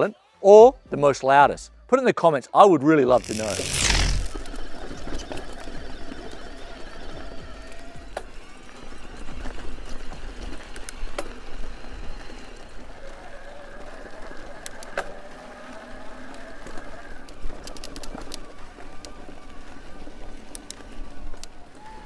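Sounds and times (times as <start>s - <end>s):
electric bike motor whining: 3.1s - 22.0s.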